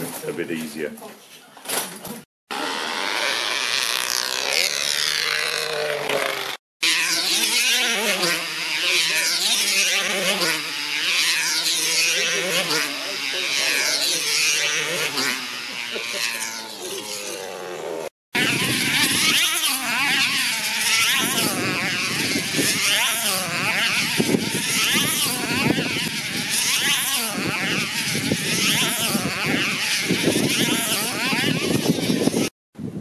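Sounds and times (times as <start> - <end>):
model car engines whining: 2.5 - 32.5.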